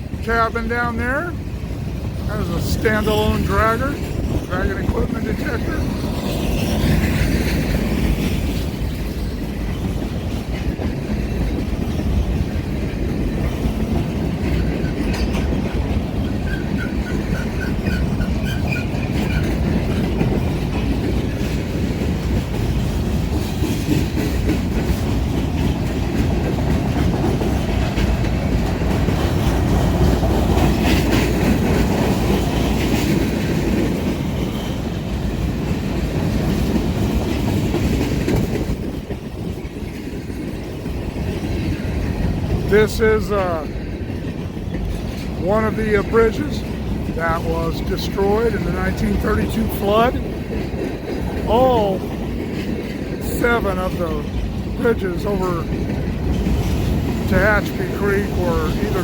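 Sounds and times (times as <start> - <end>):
freight train rumbling: 0.0 - 59.0
wheels clacking over rail joints: 0.0 - 59.0.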